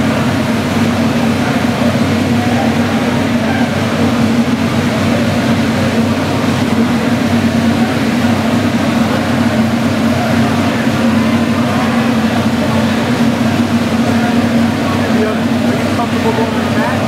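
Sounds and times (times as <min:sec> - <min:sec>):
race car engine droning: 0:00.0 - 0:17.0.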